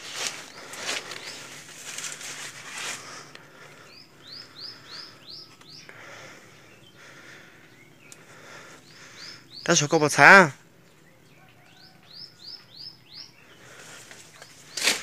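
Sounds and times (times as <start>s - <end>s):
leaves and brush rustling: 0.0s - 12.5s, 13.5s - 15.0s
bird chirping: 0.0s - 15.0s.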